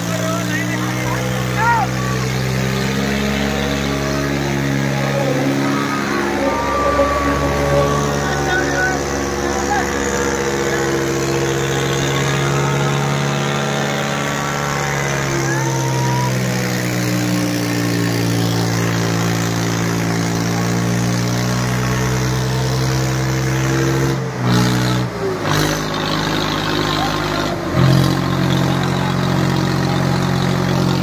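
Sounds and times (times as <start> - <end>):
diesel tractor engine under load: 0.0 - 31.0.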